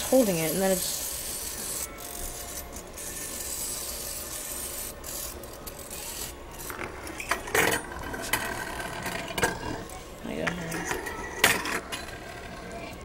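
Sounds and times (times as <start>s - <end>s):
toy gyroscope whirring: 0.0s - 13.0s.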